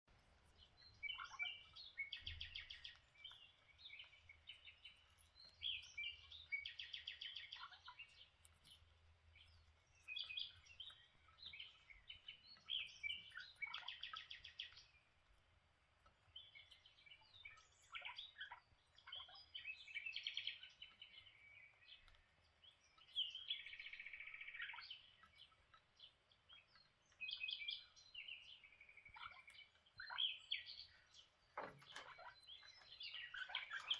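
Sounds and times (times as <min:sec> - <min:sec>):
parakeets chirping and chattering: 0:00.2 - 0:15.1, 0:16.2 - 0:33.9.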